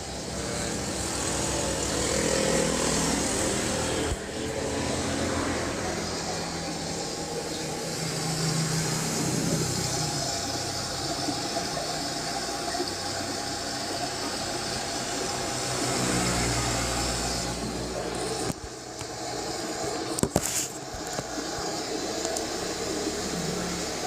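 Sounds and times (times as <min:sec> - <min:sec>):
background traffic noise: 0:00.0 - 0:24.0
vehicle engines passing: 0:00.0 - 0:24.0.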